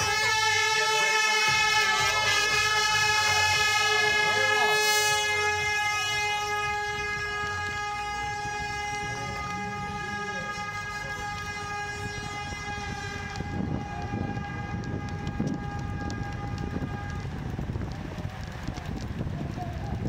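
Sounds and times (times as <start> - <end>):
start horns blasting: 0.0 - 17.6.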